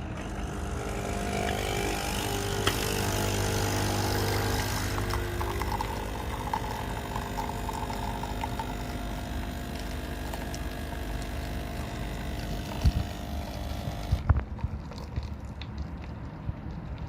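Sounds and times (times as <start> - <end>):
coffee machine pump humming: 0.0 - 16.1.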